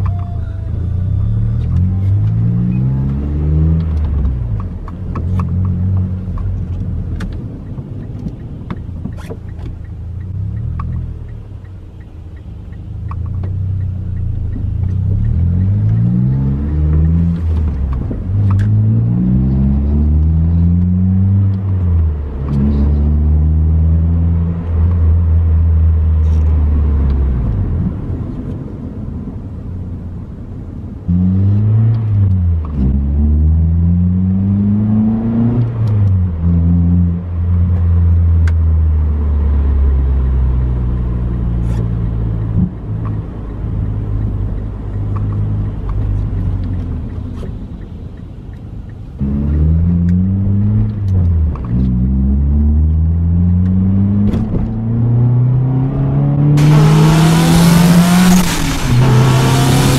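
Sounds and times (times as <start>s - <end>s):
car engine revving through gears: 1.1s - 8.2s, 13.1s - 28.6s, 31.0s - 47.7s, 49.1s - 59.9s.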